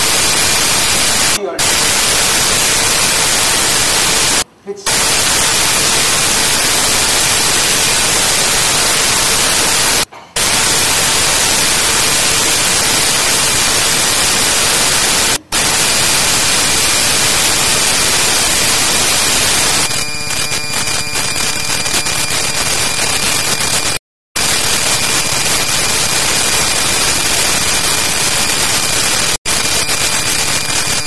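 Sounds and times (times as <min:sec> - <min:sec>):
loud static hiss: 0:00.0 - 0:31.0.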